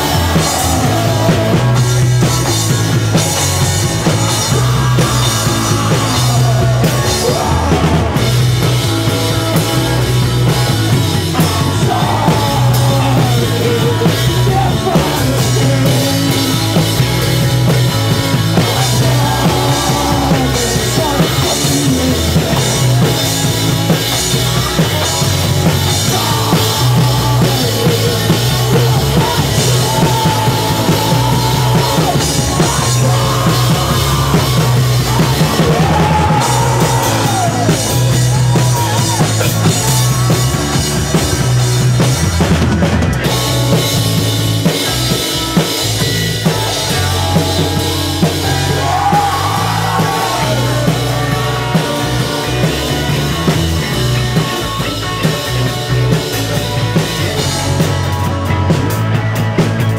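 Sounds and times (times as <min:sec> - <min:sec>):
bass line: 0:00.0 - 0:59.9
driving drum kit: 0:00.0 - 0:59.9.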